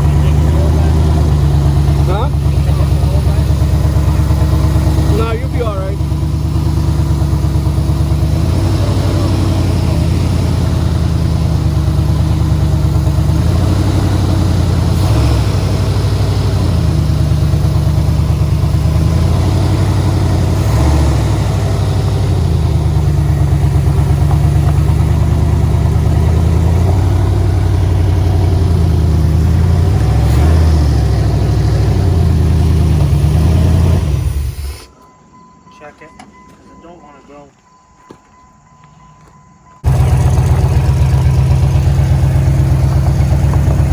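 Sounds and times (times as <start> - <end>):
truck engine idling and revving: 0.0 - 37.0, 38.0 - 43.9.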